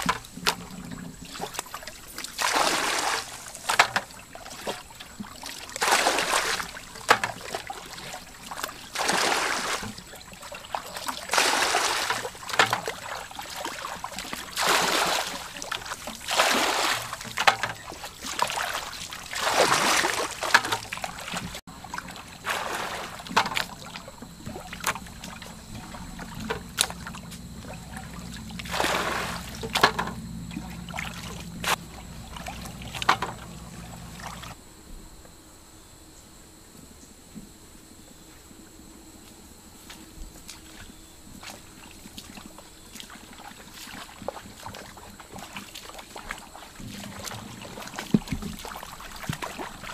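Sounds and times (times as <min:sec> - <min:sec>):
water splashing and sloshing: 0:00.0 - 0:34.6, 0:38.2 - 0:49.9
low steady hum: 0:00.0 - 0:43.6.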